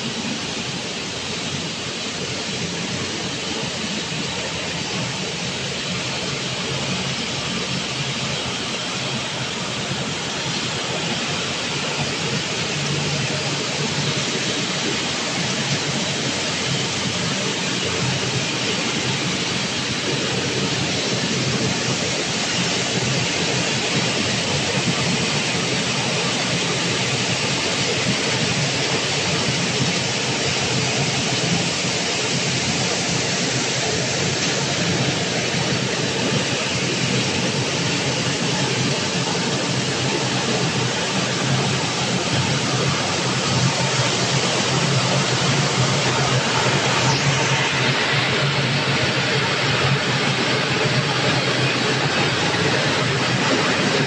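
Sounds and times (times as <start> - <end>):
steady machinery noise: 0.0 - 54.0.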